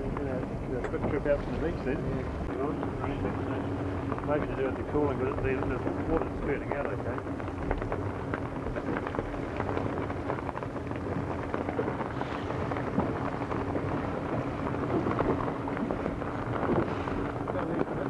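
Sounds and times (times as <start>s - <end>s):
faint motor drone: 0.0s - 18.0s
wind buffeting microphone: 0.0s - 18.0s.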